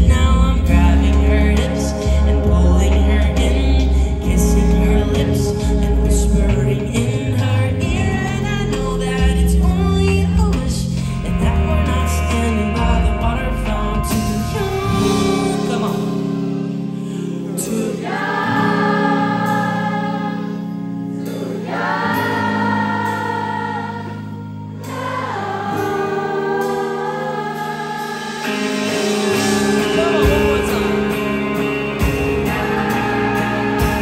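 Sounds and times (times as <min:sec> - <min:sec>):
live pop-folk band music: 0:00.0 - 0:34.0.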